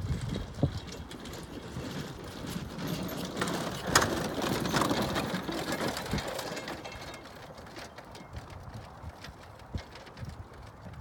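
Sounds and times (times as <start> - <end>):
horse hoofbeats: 0.0 - 11.0.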